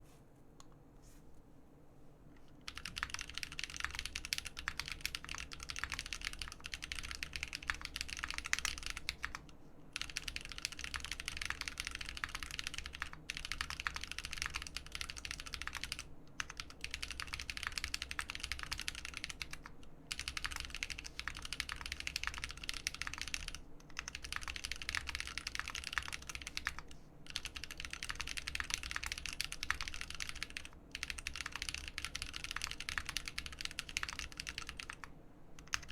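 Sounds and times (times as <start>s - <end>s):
fast typing on mechanical keyboard: 2.6s - 35.9s.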